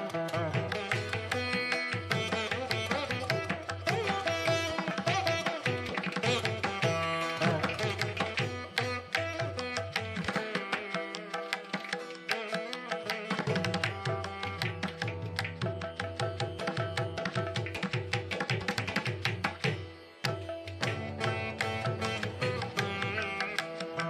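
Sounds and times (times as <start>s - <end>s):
busy percussion rhythm: 0.0s - 24.0s
instrumental music: 0.0s - 24.0s.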